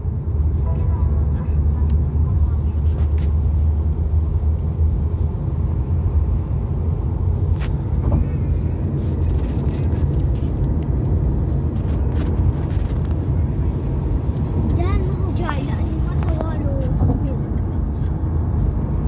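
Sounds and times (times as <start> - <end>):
car engine and tyre road noise: 0.0 - 19.0.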